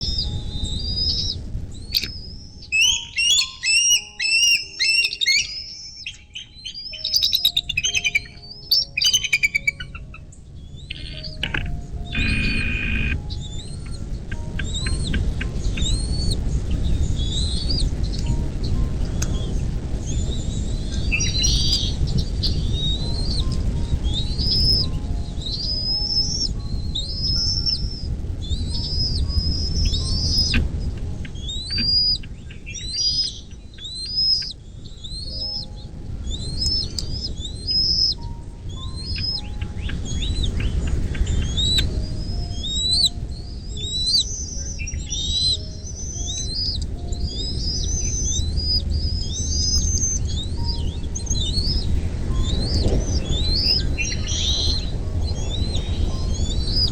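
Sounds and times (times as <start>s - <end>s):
low rumble: 0.0s - 2.8s, 8.2s - 56.9s
birds chirping: 0.0s - 56.9s.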